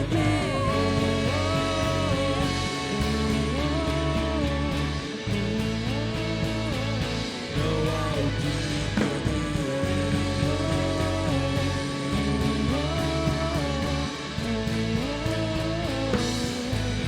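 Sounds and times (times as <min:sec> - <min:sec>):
guitar melody: 0:00.0 - 0:17.0
steady bass: 0:00.0 - 0:17.0.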